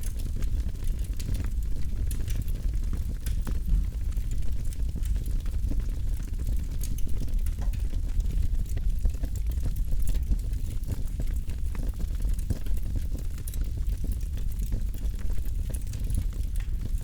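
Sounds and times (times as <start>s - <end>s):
campfire low rumble: 0.0s - 17.0s
fire crackles and pops: 0.0s - 17.0s.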